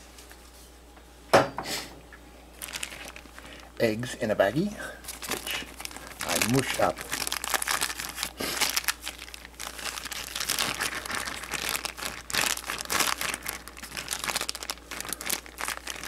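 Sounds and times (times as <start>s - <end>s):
plastic bag crinkling: 2.5s - 4.0s, 4.6s - 16.0s.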